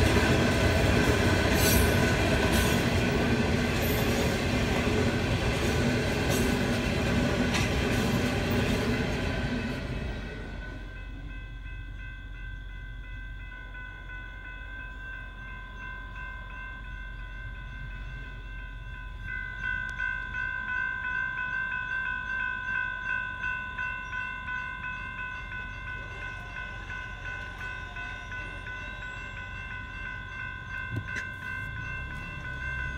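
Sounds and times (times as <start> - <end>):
crossing warning bell ringing: 0.0 - 32.9
freight train rumbling: 0.0 - 32.9.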